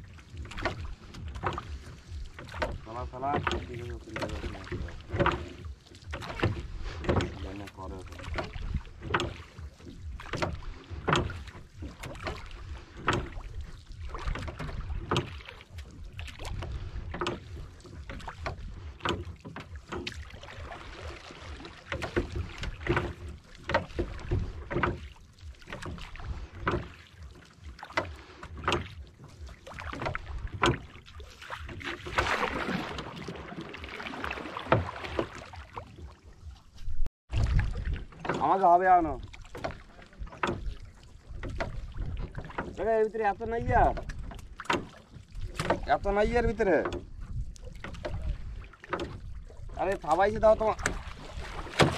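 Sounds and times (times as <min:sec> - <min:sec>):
wind rumble on microphone: 0:00.0 - 0:27.3, 0:28.1 - 0:51.9
paddle knocking on boat: 0:00.0 - 0:51.9
water washing along hull: 0:00.0 - 0:51.9.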